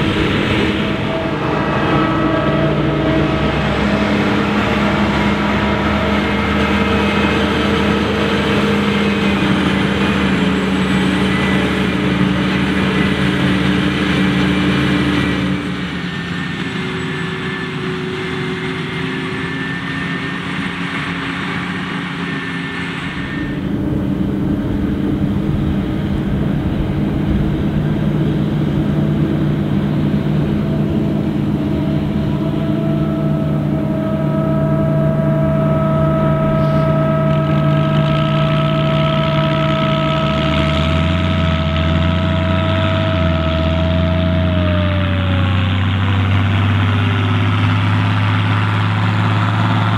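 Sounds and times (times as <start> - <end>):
diesel engines running under load: 0.0 - 49.9.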